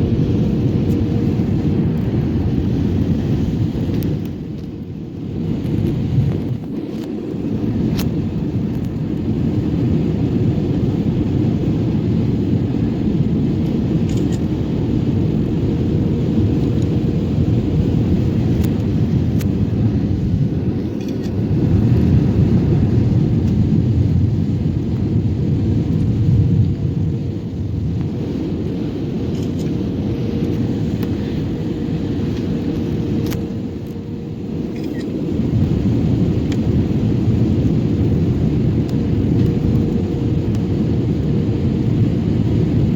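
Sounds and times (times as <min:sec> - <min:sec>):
airliner engine rumble in cabin: 0:00.0 - 0:42.9.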